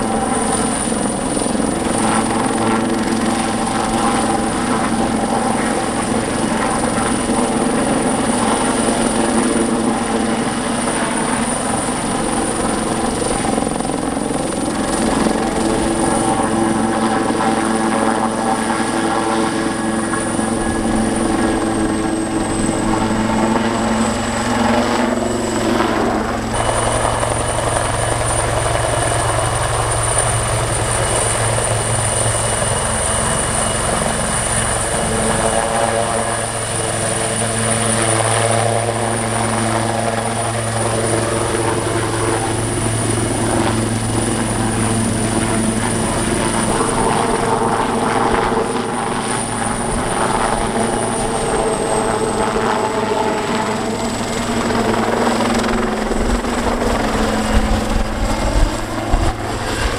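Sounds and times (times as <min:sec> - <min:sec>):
helicopter rotor and engine: 0:00.0 - 0:59.9
high turbine whine: 0:00.0 - 0:59.9.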